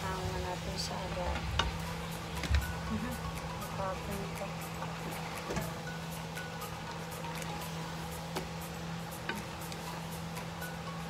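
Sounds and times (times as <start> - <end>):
light mallet music: 0.0 - 11.0.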